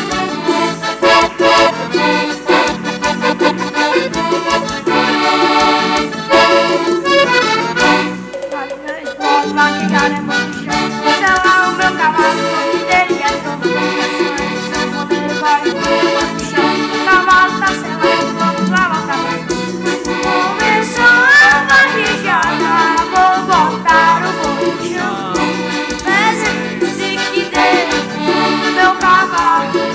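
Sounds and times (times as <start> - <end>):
accordions playing lively tune: 0.0 - 29.9.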